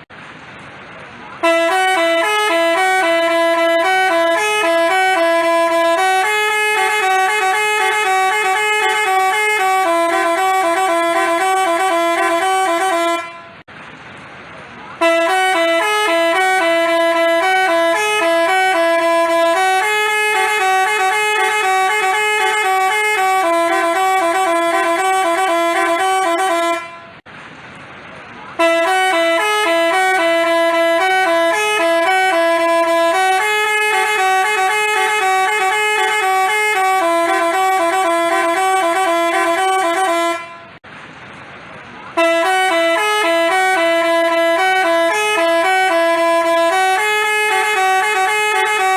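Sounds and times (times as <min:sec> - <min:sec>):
multi-tone bus horn melody: 0:01.2 - 0:13.7, 0:14.9 - 0:27.3, 0:28.5 - 0:40.8, 0:42.1 - 0:48.9.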